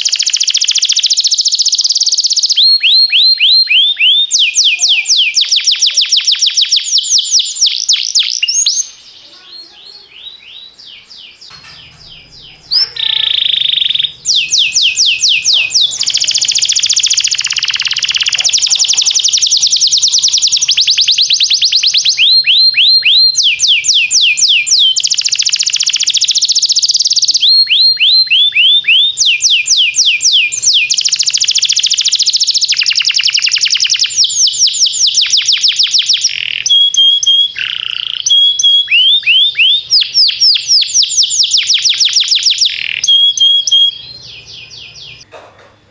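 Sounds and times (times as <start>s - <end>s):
canary singing trills: 0.0s - 45.3s.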